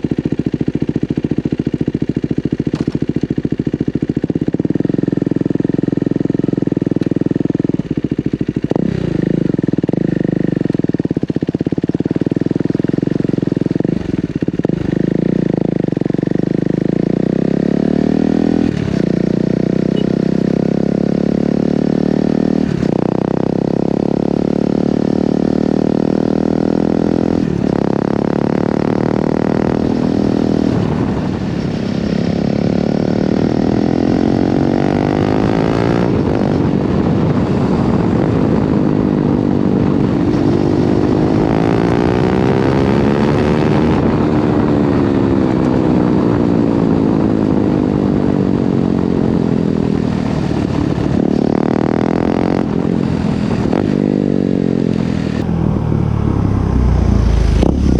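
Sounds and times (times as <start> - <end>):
motorcycle engine and exhaust: 0.0 - 57.9.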